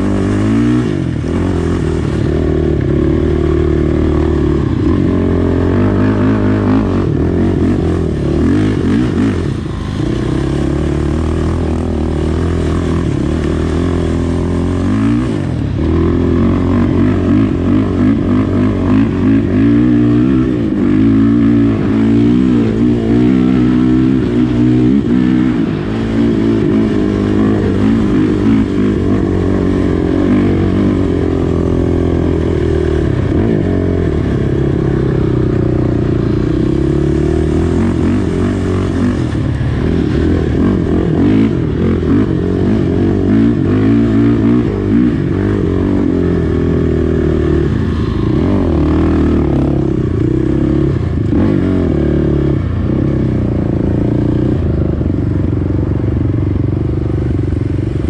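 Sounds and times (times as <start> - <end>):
quad engine revving: 0.0 - 55.9.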